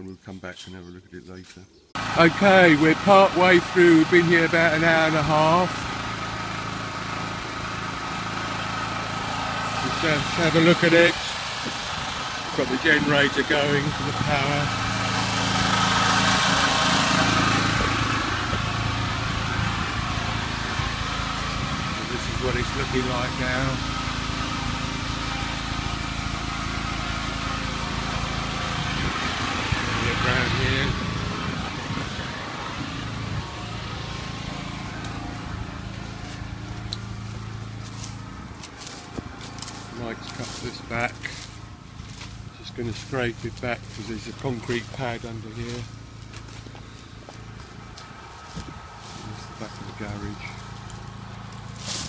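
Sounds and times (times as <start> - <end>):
generator engine humming: 2.0 - 52.0.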